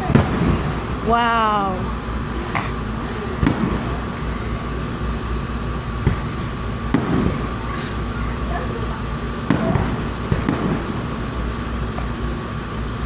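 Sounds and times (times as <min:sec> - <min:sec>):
fireworks booming: 0:00.0 - 0:13.0
low rumble of bursts: 0:00.0 - 0:13.0.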